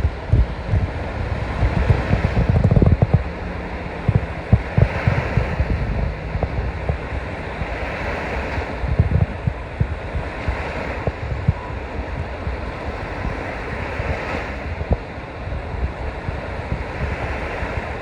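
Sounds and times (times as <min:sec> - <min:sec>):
water rushing and splashing: 0:00.0 - 0:18.0
wind buffeting microphone: 0:00.0 - 0:18.0.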